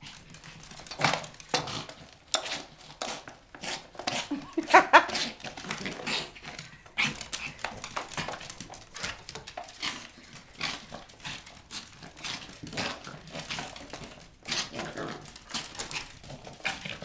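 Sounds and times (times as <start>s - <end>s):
dog claws skittering: 0.0s - 17.0s.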